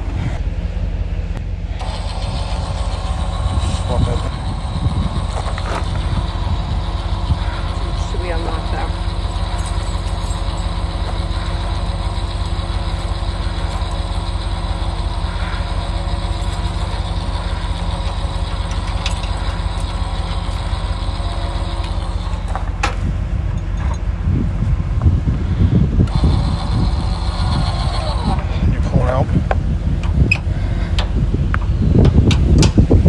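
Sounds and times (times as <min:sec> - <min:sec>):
pickup truck engine idling: 0:00.0 - 0:31.5.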